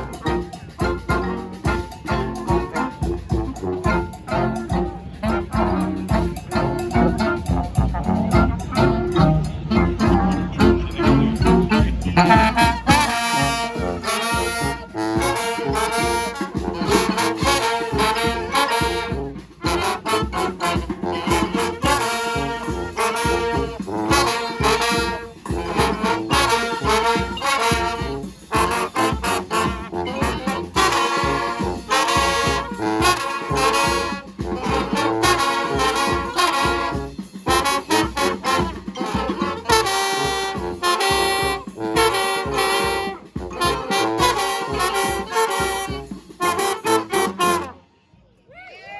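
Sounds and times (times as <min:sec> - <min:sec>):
brass band playing: 0:00.0 - 0:48.1.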